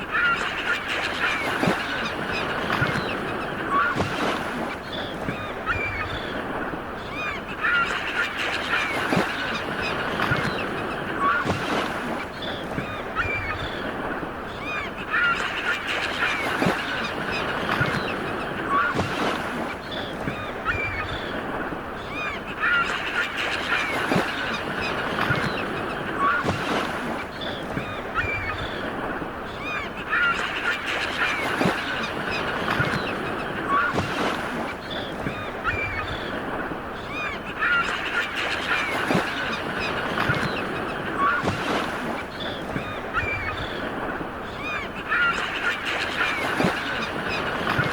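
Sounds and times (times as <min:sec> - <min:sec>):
birds calling: 0:00.0 - 0:47.9
sea waves washing on shore: 0:00.0 - 0:47.9.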